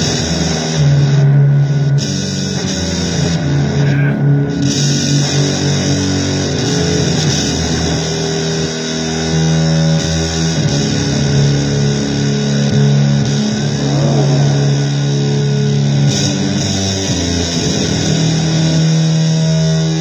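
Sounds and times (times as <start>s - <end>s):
distorted electric guitar droning: 0.0s - 20.0s.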